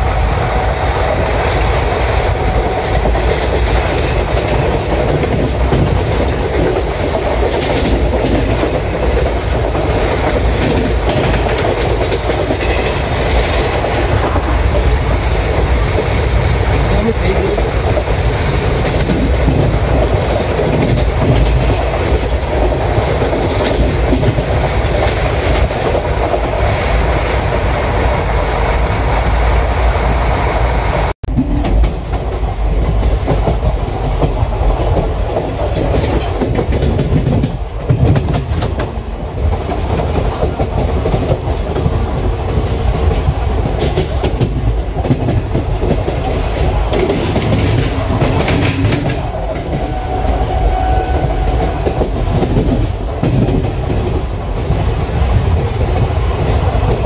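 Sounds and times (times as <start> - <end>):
wheels clickety-clack over rail joints: 0.0 - 30.2, 30.9 - 57.0
train wheels rumbling: 0.0 - 57.0.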